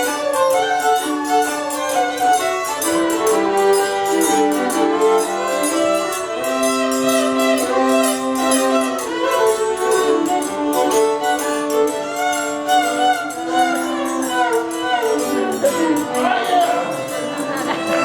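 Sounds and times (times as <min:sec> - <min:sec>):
fiddle-led string band music: 0:00.0 - 0:18.0.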